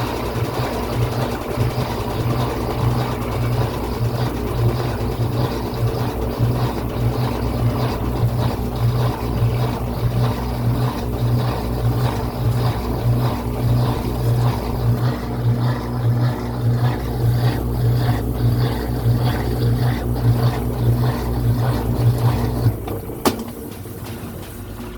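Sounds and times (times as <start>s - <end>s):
washing machine spinning hum: 0.0s - 24.9s.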